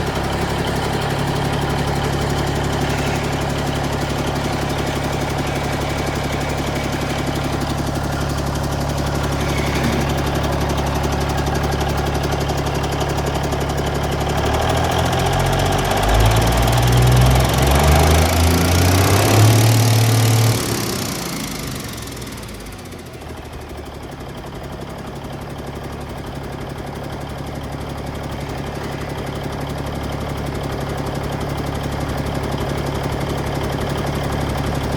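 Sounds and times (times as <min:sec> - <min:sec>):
diesel truck engine idling and revving: 0:00.0 - 0:34.9.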